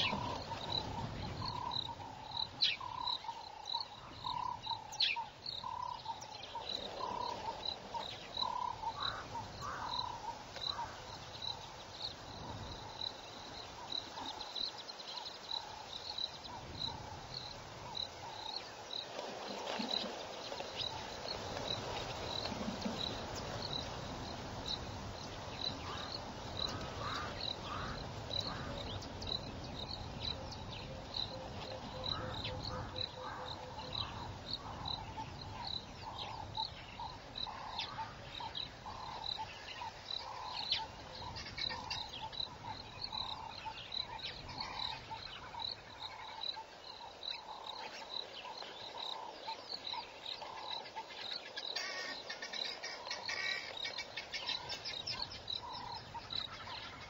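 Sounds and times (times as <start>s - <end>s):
lower rounder animal call: 0.0s - 18.7s, 22.2s - 57.0s.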